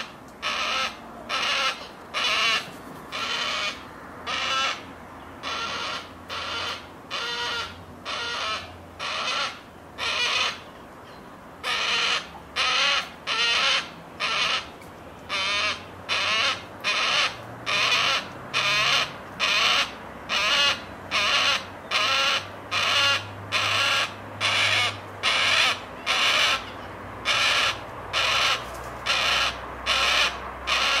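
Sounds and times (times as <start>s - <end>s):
young cockatoo begging calls: 0.0s - 10.7s, 11.6s - 14.7s, 15.3s - 31.0s.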